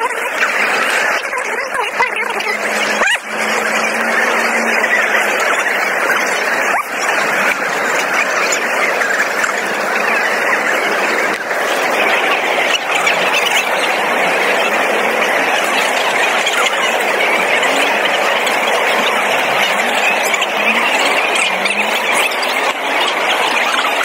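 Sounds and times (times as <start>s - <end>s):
crowd talking and calling out: 0.0s - 24.0s.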